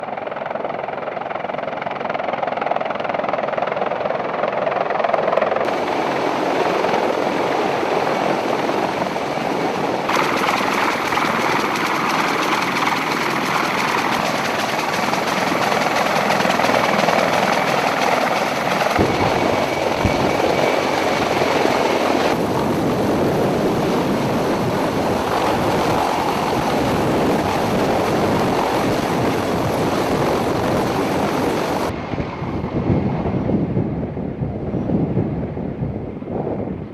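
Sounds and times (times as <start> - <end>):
helicopter rotor and turbine roar: 0.0 - 36.9.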